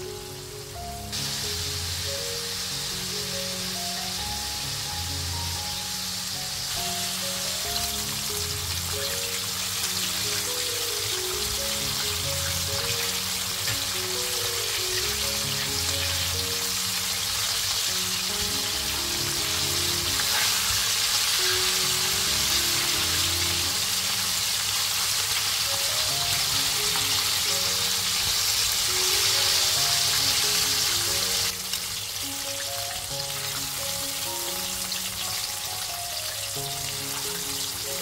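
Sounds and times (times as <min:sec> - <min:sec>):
background music: 0:00.0 - 0:38.0
chicken deep-frying in oil: 0:00.0 - 0:38.0.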